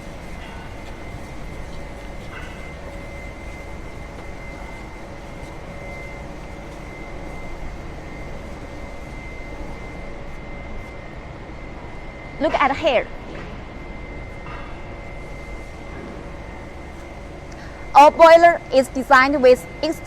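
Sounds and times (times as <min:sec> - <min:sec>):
high-pitched machine whine: 0:00.0 - 0:20.0
rumbling hiss of machinery: 0:00.0 - 0:20.0.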